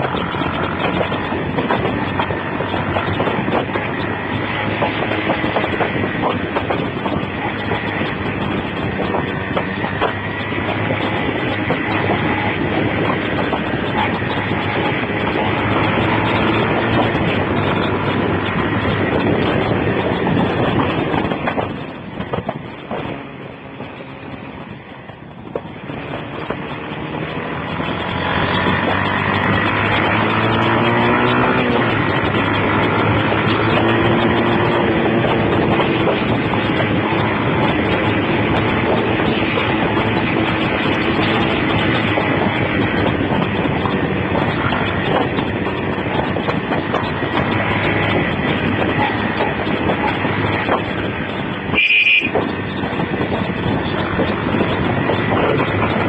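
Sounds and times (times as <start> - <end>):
motorcycle engine: 0.0 - 56.0
wind rushing over microphone: 0.0 - 56.0.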